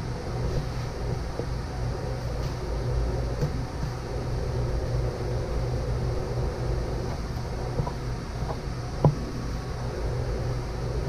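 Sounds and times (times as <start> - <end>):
steady low machine hum: 0.0 - 11.0.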